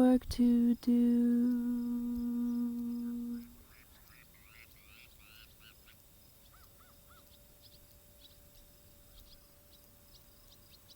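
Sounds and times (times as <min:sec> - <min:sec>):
faint bird chirps: 0:00.0 - 0:10.9.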